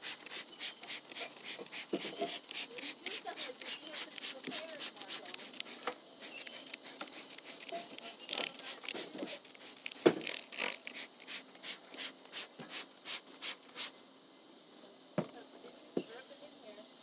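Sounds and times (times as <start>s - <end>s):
spray bottle squirting: 0.0s - 13.9s.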